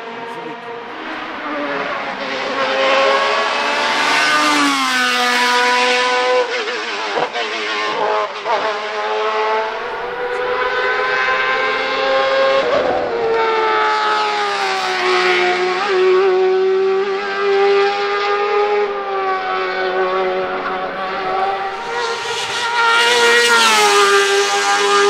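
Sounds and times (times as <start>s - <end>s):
race car engine at high revs: 0.0s - 25.0s.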